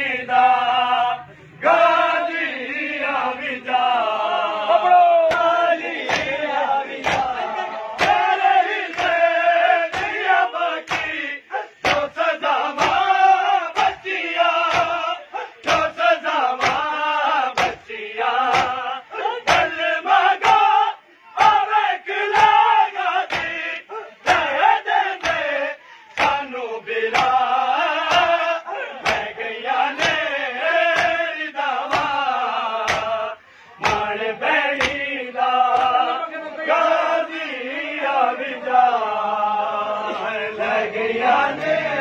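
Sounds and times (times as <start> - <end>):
crowd of men chanting: 0.0 - 42.0
rhythmic chest-beating slaps: 1.6 - 38.4, 39.1 - 42.0.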